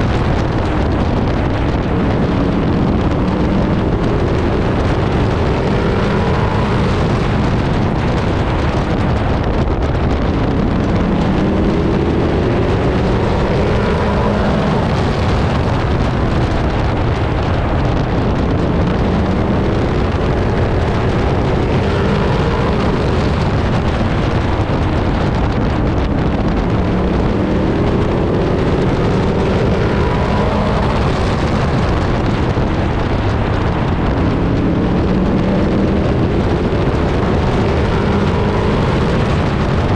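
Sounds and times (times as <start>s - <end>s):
racing truck engine revving: 0.0s - 39.9s.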